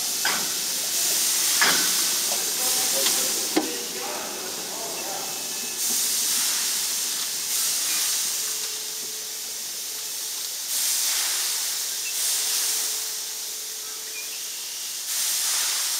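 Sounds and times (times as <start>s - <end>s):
steam locomotive hissing: 0.0s - 15.9s.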